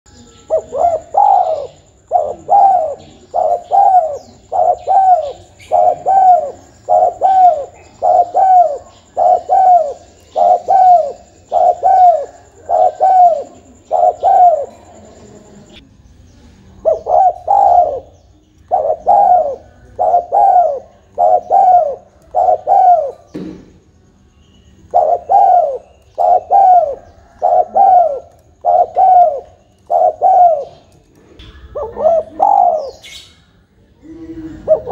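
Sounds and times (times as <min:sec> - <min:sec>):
dove cooing: 0:00.3 - 0:15.8, 0:16.8 - 0:23.3, 0:24.9 - 0:31.0, 0:31.6 - 0:33.3, 0:34.0 - 0:34.9.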